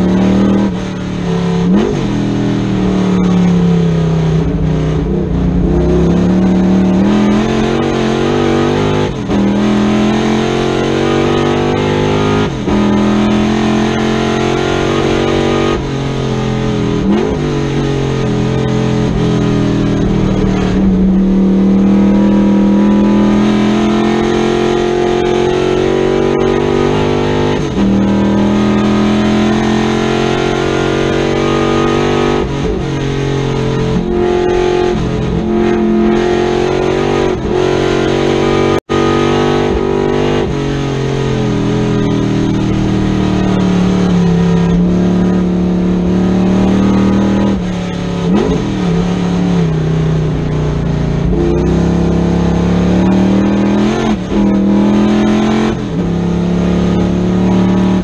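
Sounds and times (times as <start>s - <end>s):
car engine through gears: 0.0s - 58.0s.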